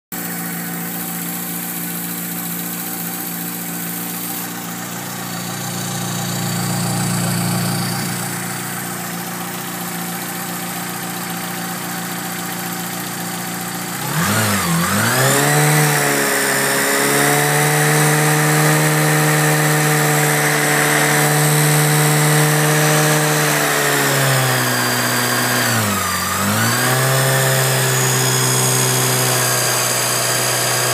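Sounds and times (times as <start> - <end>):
car engine idling and revving: 0.2 - 30.9
supercharger low burr: 0.2 - 30.9.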